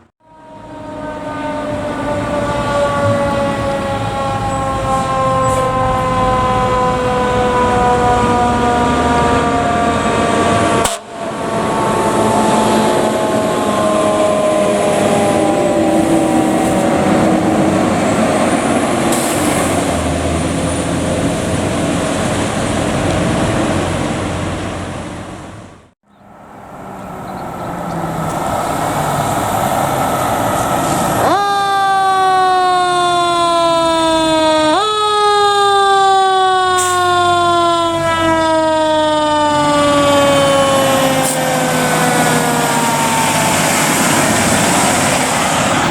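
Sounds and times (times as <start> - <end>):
fire truck sirens: 0.0 - 45.9
heavy engine and road noise: 0.0 - 45.9.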